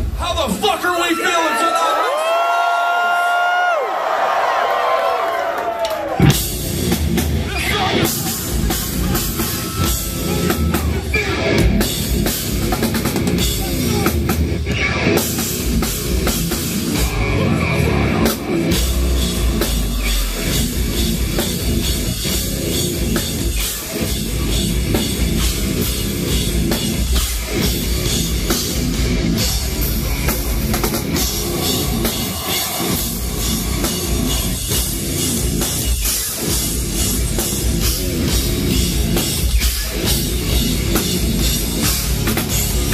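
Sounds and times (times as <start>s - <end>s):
metal band playing live: 6.2s - 42.9s.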